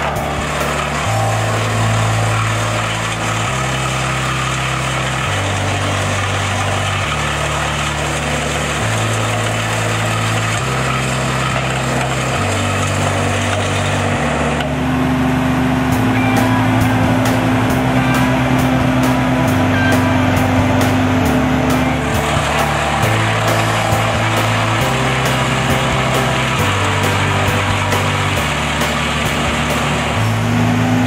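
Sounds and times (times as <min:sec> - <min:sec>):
steady hum: 0:00.0 - 0:31.0
wood chipper engine running: 0:00.0 - 0:31.0.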